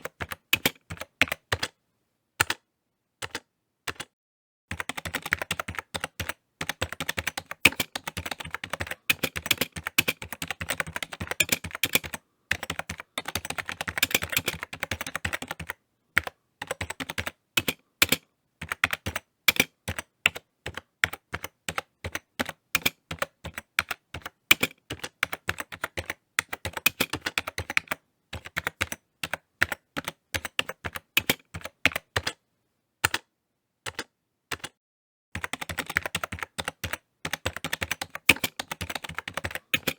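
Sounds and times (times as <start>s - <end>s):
typing on computer keyboard: 0.0s - 1.8s, 2.4s - 2.6s, 3.2s - 4.1s, 4.7s - 32.4s, 33.0s - 34.8s, 35.4s - 39.9s.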